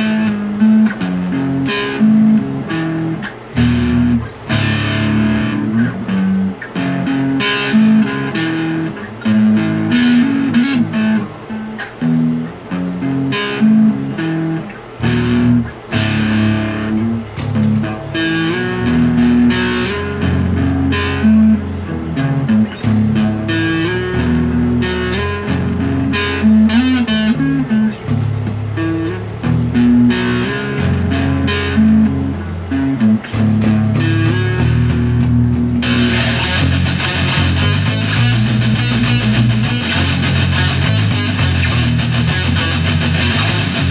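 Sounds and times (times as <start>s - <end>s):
bass guitar riff: 0.0s - 43.9s
electric guitar riff: 0.0s - 43.9s.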